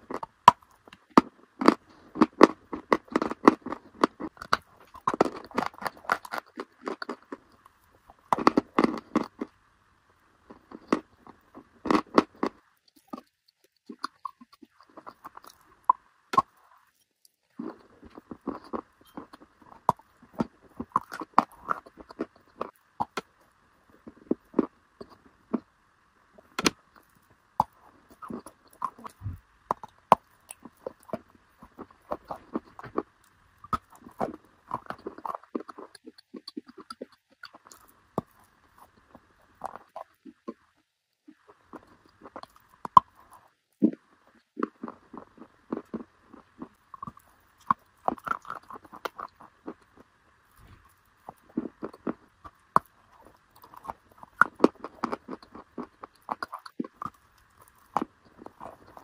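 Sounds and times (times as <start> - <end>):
chewing crunchy chalk: 0.0 - 9.6, 10.5 - 25.7, 26.4 - 40.6, 41.3 - 59.0.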